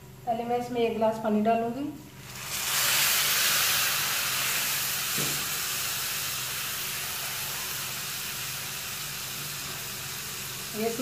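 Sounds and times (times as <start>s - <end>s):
water sizzling in hot pan: 2.2s - 11.0s.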